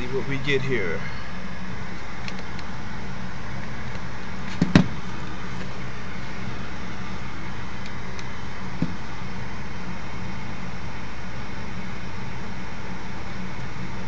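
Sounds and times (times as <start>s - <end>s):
furnace motor humming: 0.0s - 14.0s.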